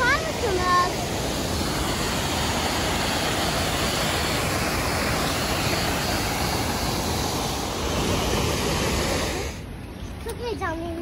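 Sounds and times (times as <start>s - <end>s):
waterfall rushing into pool: 0.0s - 9.7s.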